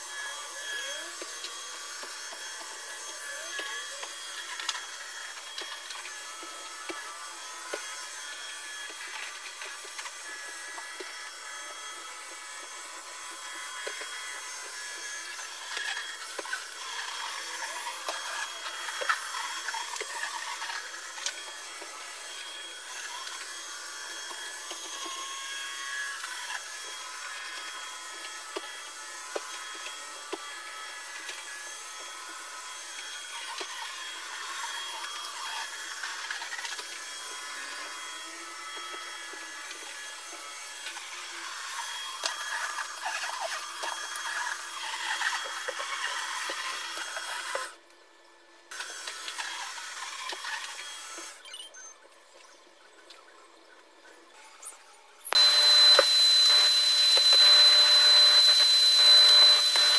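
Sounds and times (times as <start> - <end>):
vacuum cleaner running: 0.0 - 47.8, 55.2 - 59.9.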